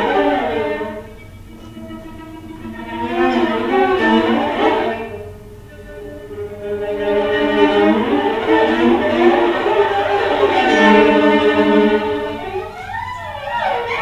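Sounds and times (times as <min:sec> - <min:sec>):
bowed viola long notes: 0:00.0 - 0:14.0.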